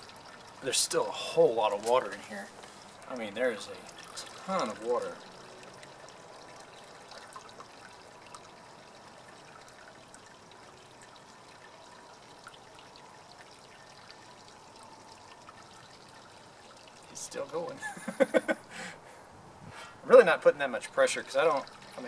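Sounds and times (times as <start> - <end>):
liquid trickling: 0.0 - 22.0.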